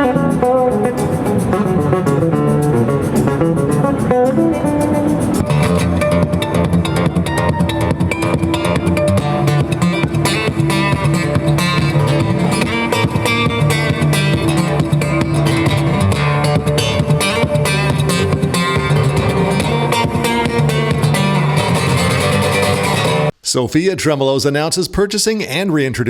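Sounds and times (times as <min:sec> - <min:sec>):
bass line: 0:00.0 - 0:23.3
guitar playing: 0:00.0 - 0:23.3.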